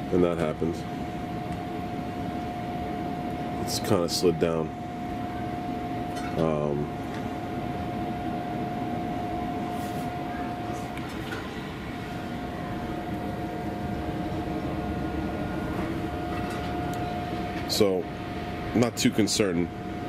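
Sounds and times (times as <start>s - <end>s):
grill fan hum with whine: 0.0s - 20.0s.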